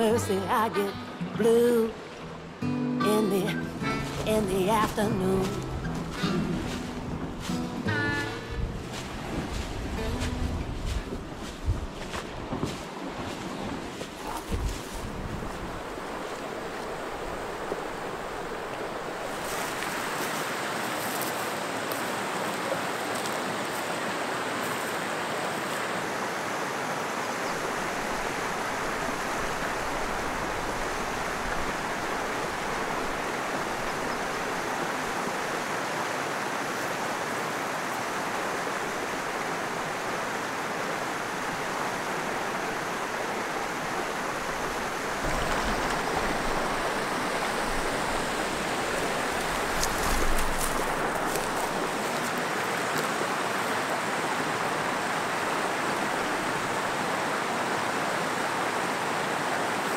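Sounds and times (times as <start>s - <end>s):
water rushing through rapids: 0.0s - 2.7s, 3.3s - 59.9s.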